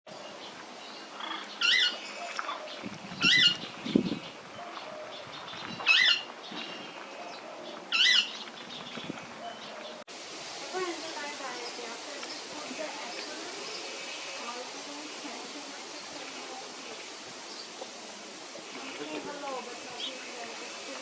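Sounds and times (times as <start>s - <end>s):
birds chirping faintly: 0.1s - 10.1s, 10.7s - 21.0s.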